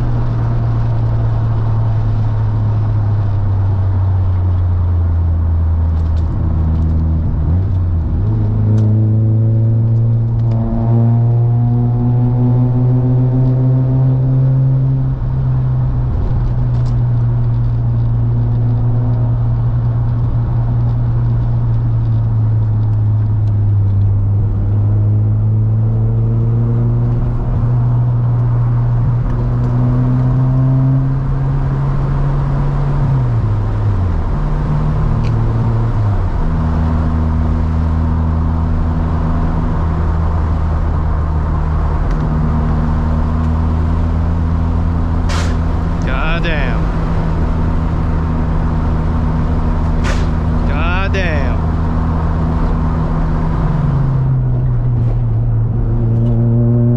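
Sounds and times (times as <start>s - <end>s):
rotary engine cruising: 0.0s - 56.9s.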